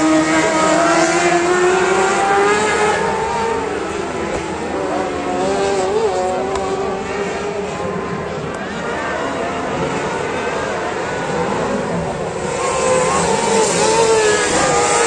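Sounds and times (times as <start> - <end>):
racing engines revving: 0.0 - 15.0.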